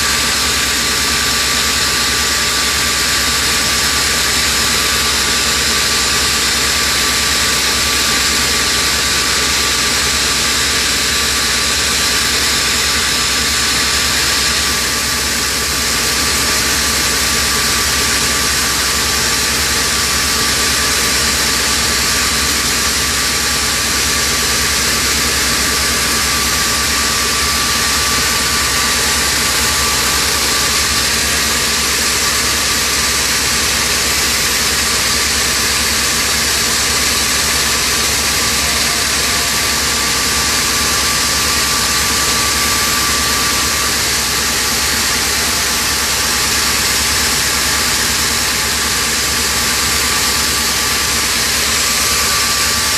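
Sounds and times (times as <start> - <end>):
oxygen machine hissing and humming: 0.0 - 52.9.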